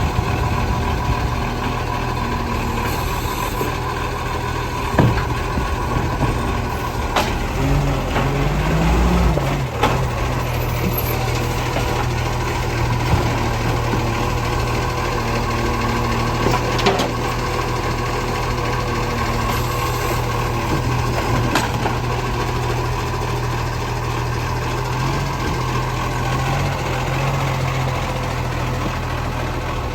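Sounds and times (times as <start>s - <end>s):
garbage truck engine idling: 0.0s - 29.9s.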